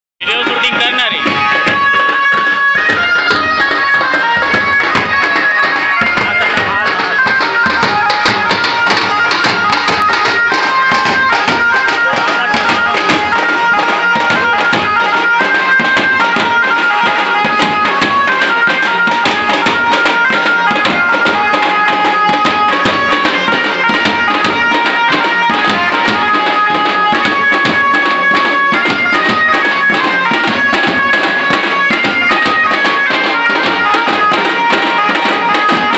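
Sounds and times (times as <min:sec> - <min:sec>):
reed wind instrument melody: 0:00.2 - 0:35.9.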